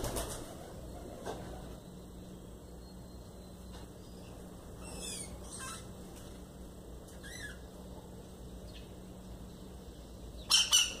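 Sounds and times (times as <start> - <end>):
birds calling: 0.0 - 11.0
steady low hum: 0.0 - 11.0.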